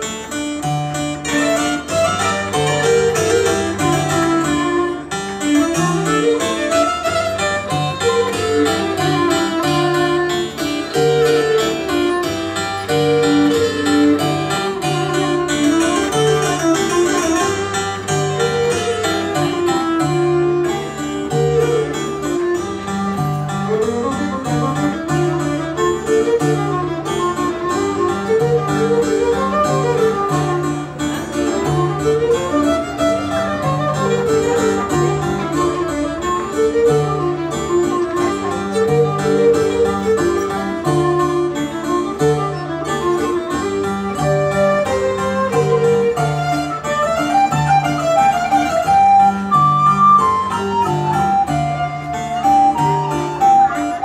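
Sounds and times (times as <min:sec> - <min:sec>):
medieval ensemble playing: 0:00.0 - 0:54.0.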